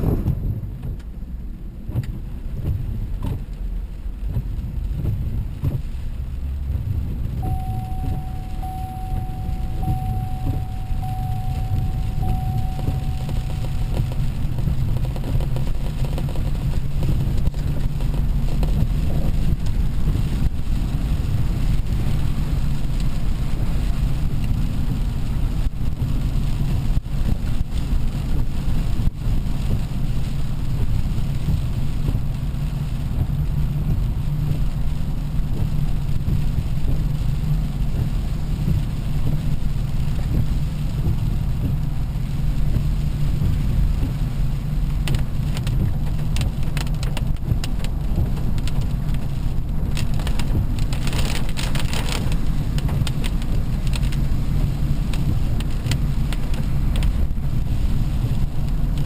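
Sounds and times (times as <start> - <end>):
car cabin rumble: 0.0 - 59.0.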